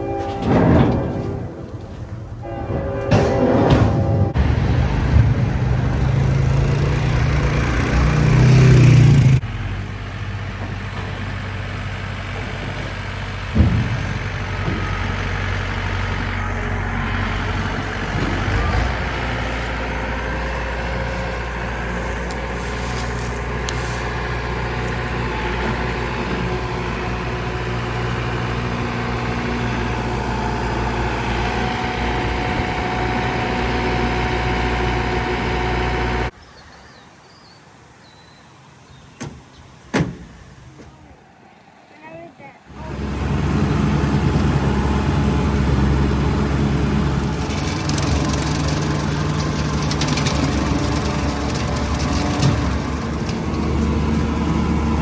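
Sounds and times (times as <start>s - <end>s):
tractor engine under load: 4.3s - 36.4s, 42.7s - 55.0s.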